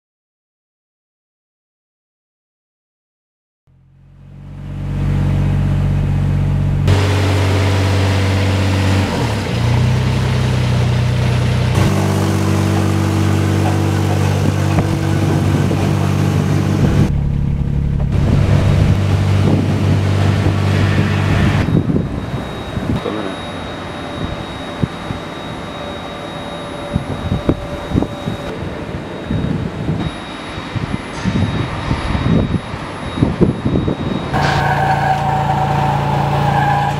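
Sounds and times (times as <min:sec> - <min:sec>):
crane engine running: 0:03.7 - 0:36.9.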